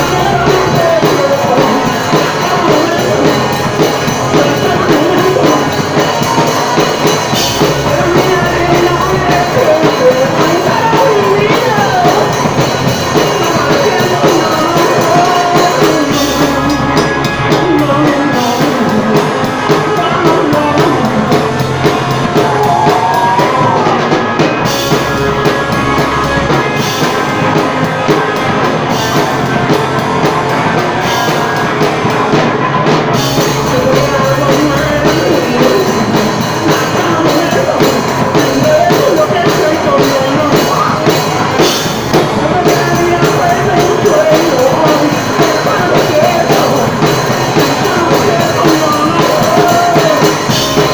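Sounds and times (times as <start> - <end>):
drums: 0.0 - 50.9
guitar: 0.0 - 50.9
lead vocal singing: 0.0 - 50.9.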